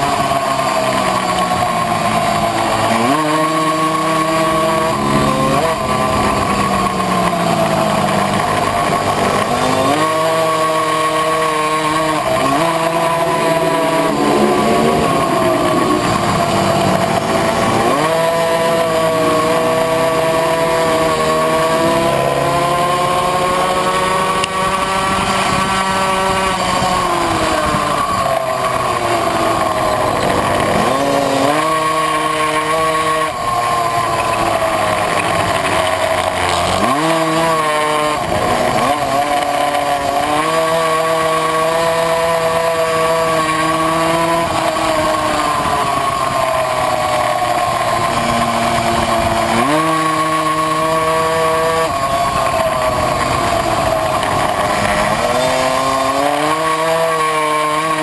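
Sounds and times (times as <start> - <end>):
two-stroke moped engine racing: 0.0 - 58.0.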